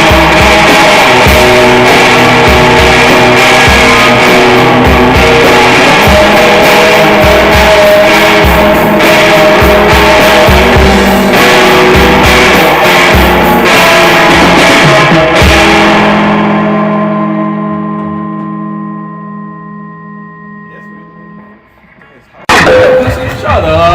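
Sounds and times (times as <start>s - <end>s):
guitar chord ringing: 0.0s - 21.9s
rock band playing: 0.0s - 21.9s, 22.5s - 23.9s.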